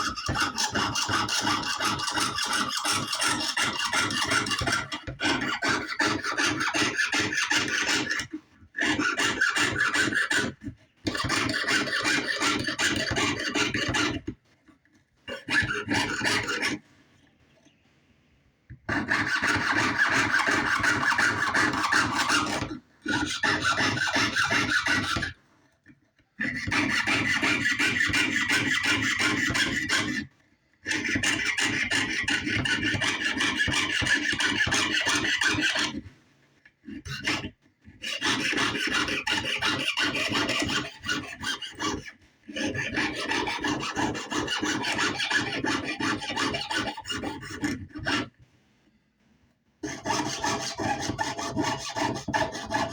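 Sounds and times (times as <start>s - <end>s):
hand tool rasping metal: 0.0s - 14.3s, 15.3s - 16.8s, 18.9s - 25.4s, 26.5s - 30.2s, 30.9s - 36.0s, 37.0s - 48.3s, 49.8s - 52.9s.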